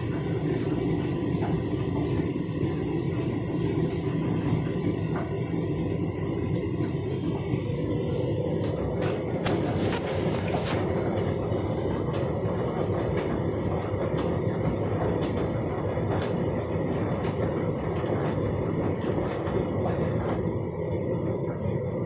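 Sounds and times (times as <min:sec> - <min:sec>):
washing machine drum rumbling: 0:00.0 - 0:22.0.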